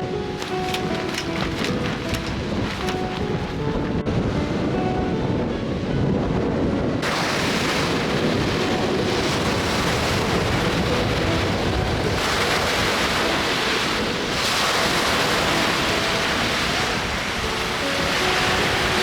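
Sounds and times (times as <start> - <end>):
waves washing on shore: 0.0 - 4.8, 7.0 - 19.0
wind buffeting microphone: 0.0 - 19.0.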